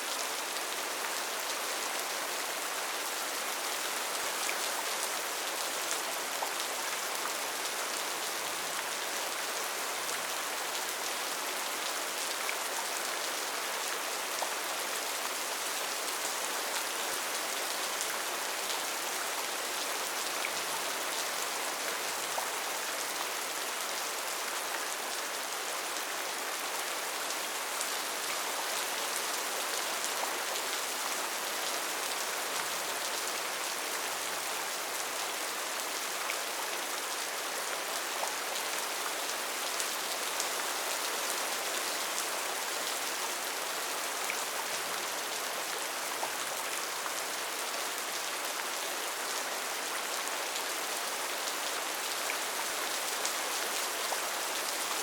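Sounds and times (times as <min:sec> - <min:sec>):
rain on foliage: 0:00.0 - 0:55.0.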